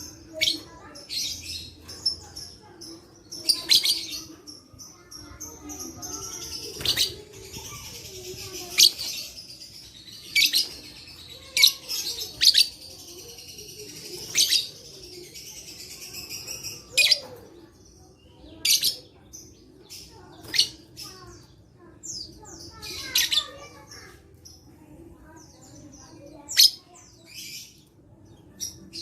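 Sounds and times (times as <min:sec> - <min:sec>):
high bird chatter: 0:00.0 - 0:29.0.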